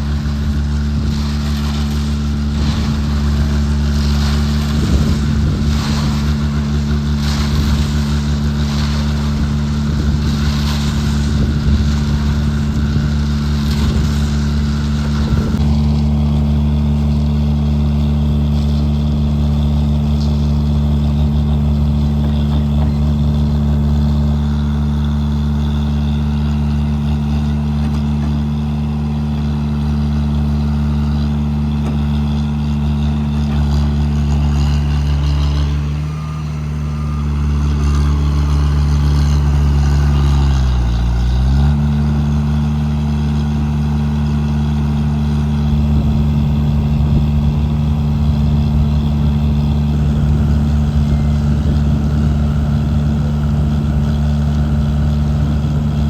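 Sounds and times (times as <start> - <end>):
heavy construction machinery engine: 0.0 - 56.0.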